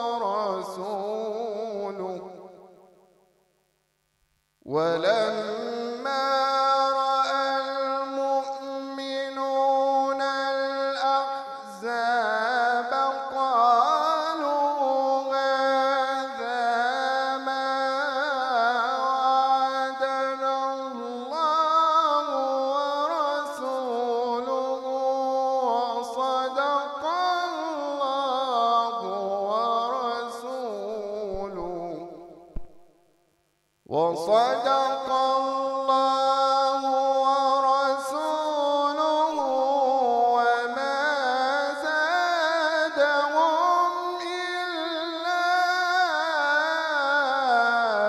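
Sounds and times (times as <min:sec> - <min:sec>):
man chanting into microphone: 0:00.0 - 0:02.6, 0:04.6 - 0:32.8, 0:33.9 - 0:48.0.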